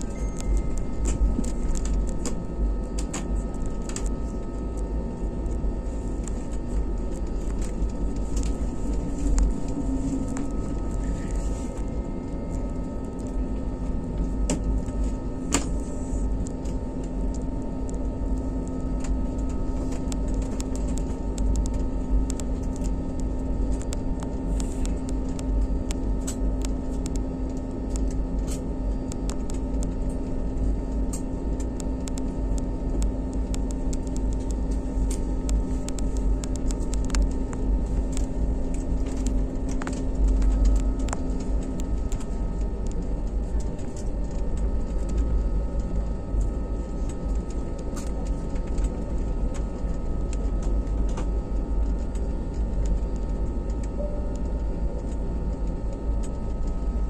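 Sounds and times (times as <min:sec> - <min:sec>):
cabin low rumble: 0:00.0 - 0:57.0.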